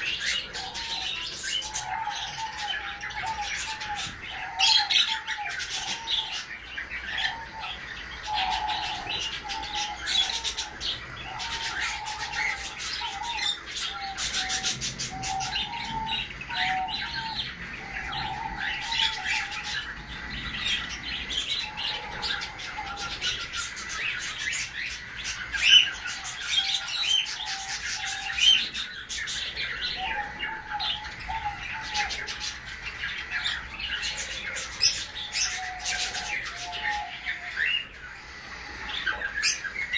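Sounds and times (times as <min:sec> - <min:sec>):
loud bird calls: 0:00.0 - 0:39.9
parrots chirping and chattering: 0:00.0 - 0:39.9.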